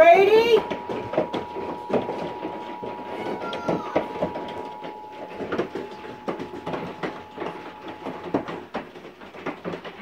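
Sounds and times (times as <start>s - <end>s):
electronic alert tone: 0.0s - 8.7s.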